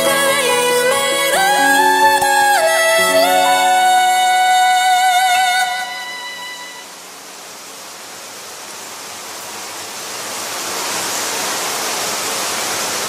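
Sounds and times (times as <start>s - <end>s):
steady rainfall hiss: 0.0s - 13.0s.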